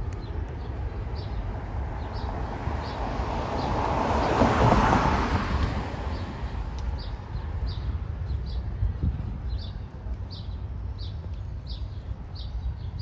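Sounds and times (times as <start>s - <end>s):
small birds chirping: 0.0s - 3.8s, 6.0s - 13.0s.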